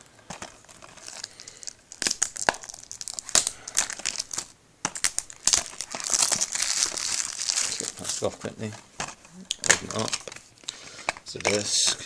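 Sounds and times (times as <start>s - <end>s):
cellophane wrap crinkling and tearing: 0.2s - 12.0s.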